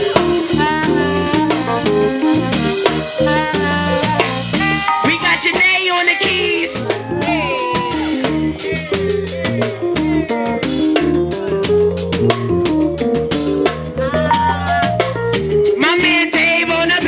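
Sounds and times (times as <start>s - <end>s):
drum kit steady beat: 0.0s - 17.0s
live band instrumental groove: 0.0s - 17.0s.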